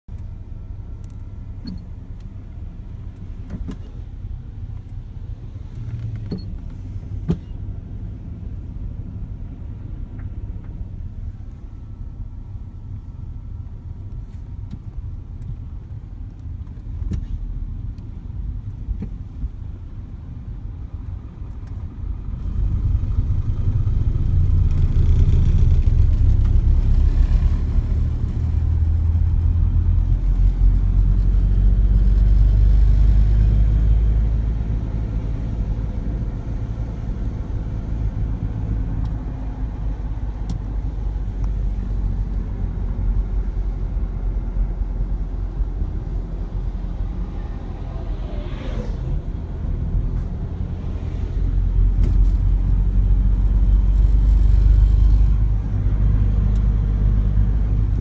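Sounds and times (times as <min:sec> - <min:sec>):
vehicle rumble from inside cabin: 0:00.1 - 0:58.0.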